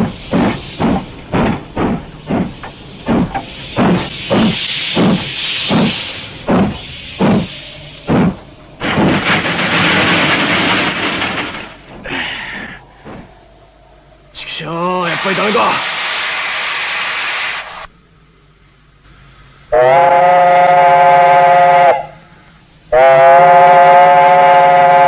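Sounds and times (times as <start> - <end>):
steam locomotive chuffing: 0.0 - 17.9, 19.2 - 25.0
steam hissing: 0.0 - 18.0, 18.9 - 25.0.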